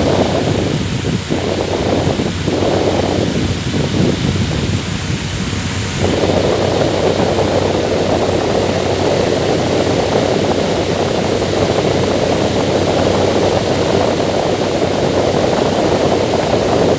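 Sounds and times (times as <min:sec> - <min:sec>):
electric fan running: 0:00.0 - 0:16.9.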